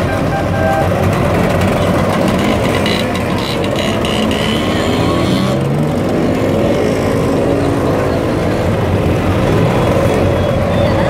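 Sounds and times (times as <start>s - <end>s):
scooter engines droning: 0.0s - 11.0s.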